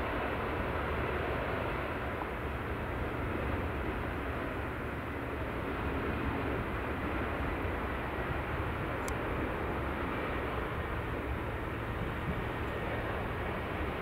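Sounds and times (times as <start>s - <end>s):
distant jet engines at takeoff: 0.0s - 14.0s.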